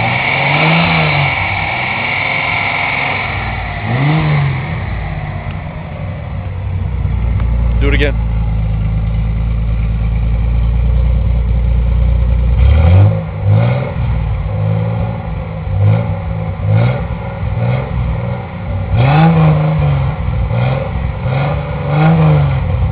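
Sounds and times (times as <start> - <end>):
car engine idling: 0.0 - 22.9
engine revving: 0.0 - 22.9.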